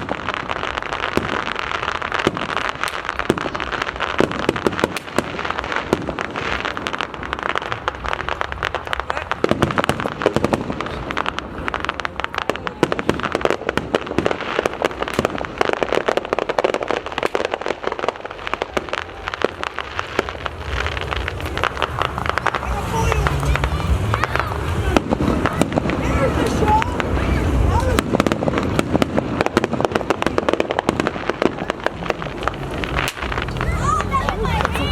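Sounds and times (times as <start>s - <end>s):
fireworks crackling and banging: 0.0s - 34.9s.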